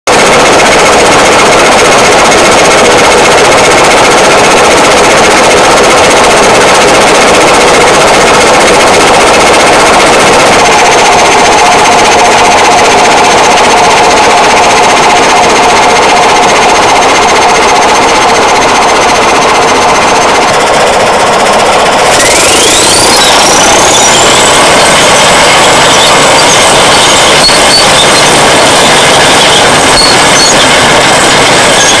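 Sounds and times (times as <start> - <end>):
bulldozer diesel engine running: 0.1 - 32.0
turbocharger whistle: 0.1 - 32.0.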